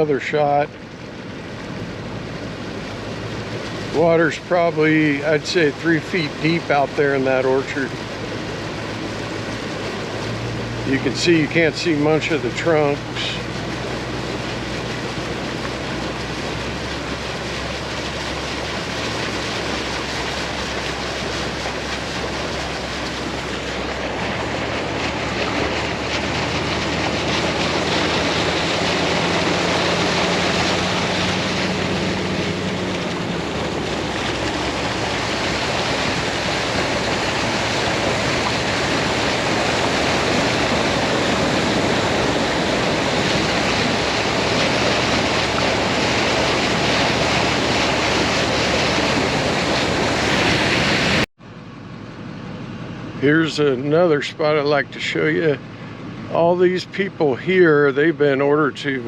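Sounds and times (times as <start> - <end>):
low engine hum: 0.0 - 59.0
road and wind noise: 0.0 - 59.0.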